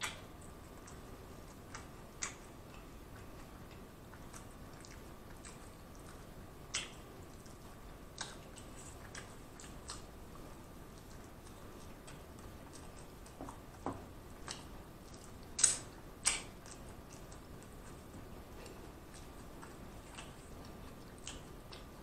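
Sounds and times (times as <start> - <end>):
person chewing: 0.0 - 21.9
lip smacks and clicks: 0.0 - 22.0.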